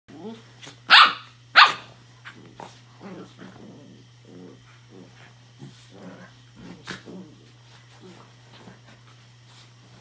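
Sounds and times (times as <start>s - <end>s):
puppies play-growling: 0.1s - 0.9s, 2.2s - 10.0s.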